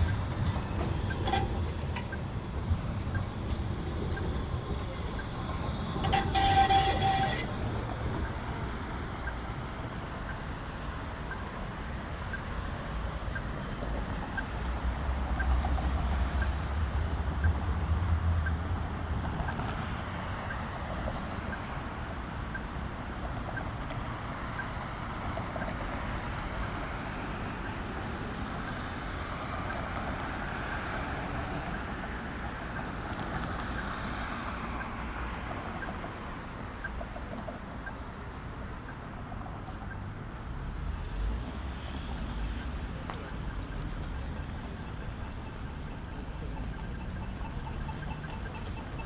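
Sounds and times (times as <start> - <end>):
passing road vehicles: 0.0 - 49.0.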